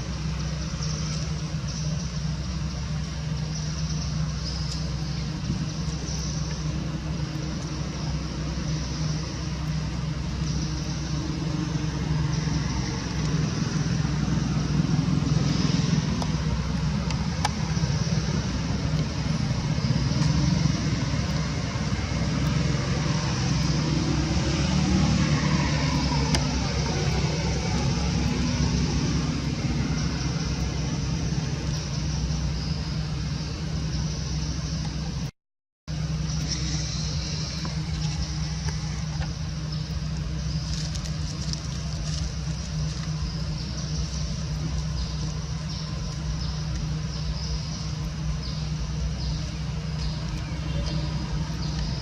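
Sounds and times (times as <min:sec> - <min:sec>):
motor engine humming: 0:00.0 - 0:35.3, 0:35.9 - 0:52.0
traffic noise: 0:00.0 - 0:35.3, 0:35.9 - 0:52.0.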